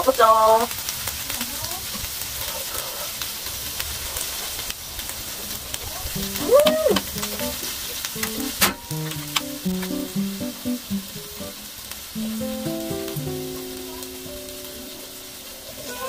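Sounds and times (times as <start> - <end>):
meat sizzling on grill pan: 0.0 - 16.0.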